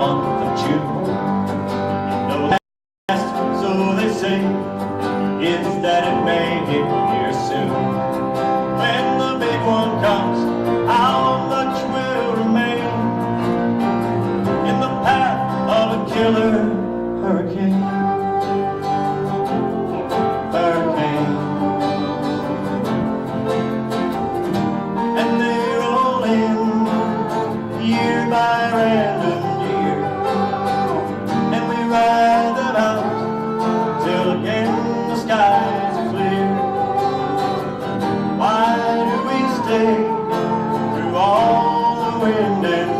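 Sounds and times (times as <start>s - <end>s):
acoustic guitar playing: 0.0s - 42.9s
wavering melodic lead line: 3.1s - 42.9s.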